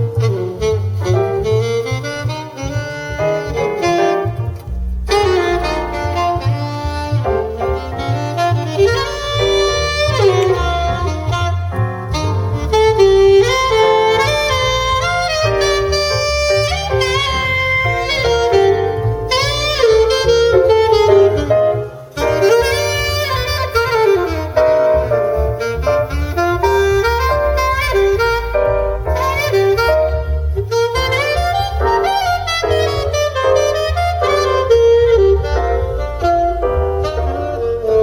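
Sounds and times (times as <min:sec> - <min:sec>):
double bass: 0:00.0 - 0:38.0
saxophone lead: 0:00.0 - 0:38.0.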